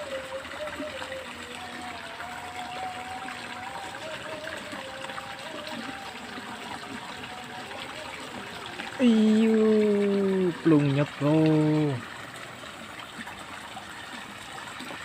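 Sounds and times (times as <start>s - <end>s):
water trickling through ditch: 0.0s - 15.0s.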